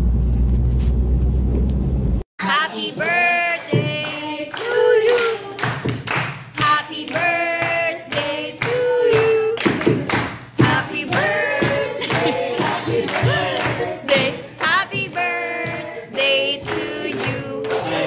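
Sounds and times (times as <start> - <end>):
hand clapping: 3.0 - 18.0.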